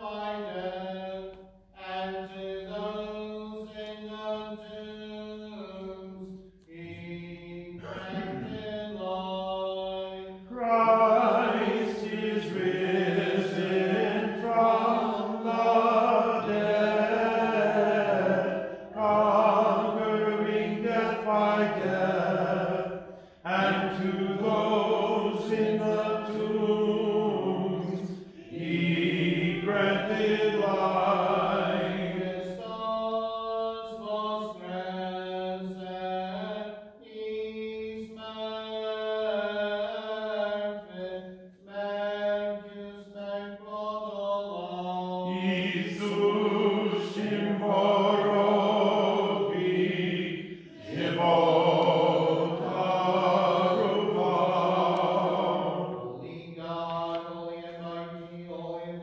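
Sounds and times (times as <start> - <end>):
unaccompanied liturgical chant: 0.0 - 59.0.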